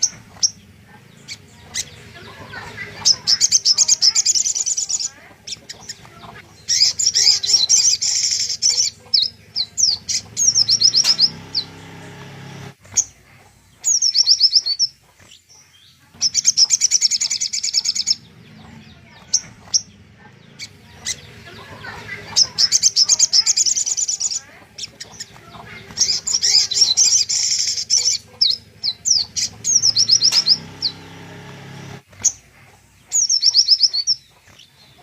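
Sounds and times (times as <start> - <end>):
bird sharp repeated chirps: 0.0 - 35.0
songbird rattling trills: 0.0 - 35.0.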